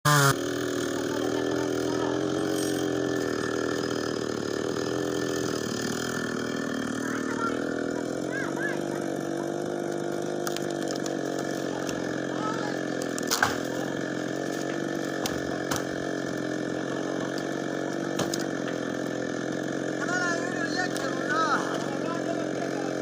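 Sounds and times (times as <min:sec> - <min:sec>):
chainsaw engine running: 0:00.0 - 0:23.0.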